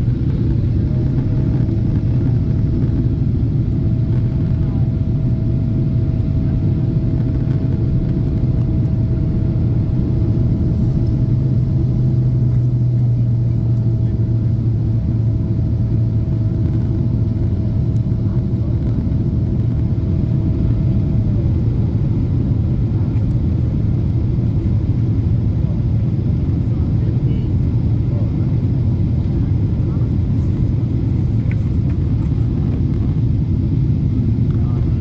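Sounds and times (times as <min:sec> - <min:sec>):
aircraft engines rumbling in cabin: 0:00.0 - 0:35.0.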